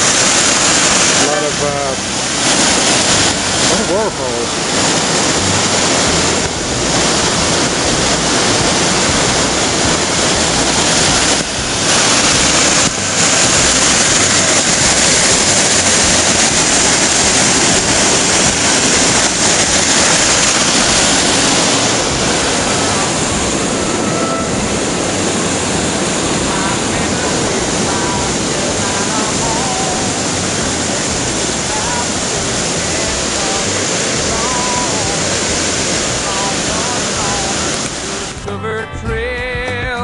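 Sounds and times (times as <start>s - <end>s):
waterfall rushing: 0.0s - 38.5s.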